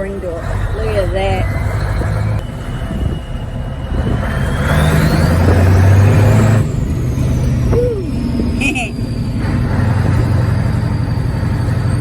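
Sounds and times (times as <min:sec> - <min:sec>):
truck engine under load: 0:00.0 - 0:12.0
thin rising whine: 0:01.0 - 0:12.0.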